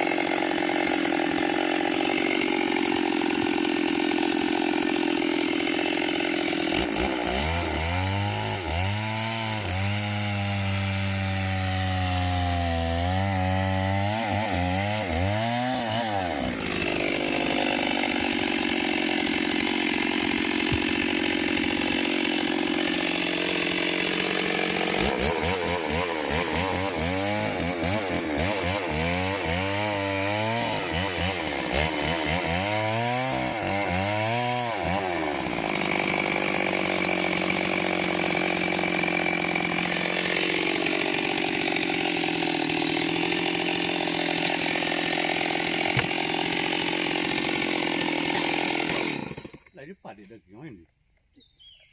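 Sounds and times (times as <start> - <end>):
chainsaw cutting tree trunk: 0.0 - 50.7.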